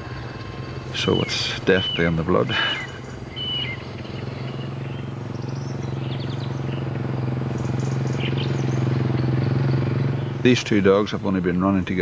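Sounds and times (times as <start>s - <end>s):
birds chirping: 0.0s - 12.0s
quad bike engine running: 0.0s - 12.0s.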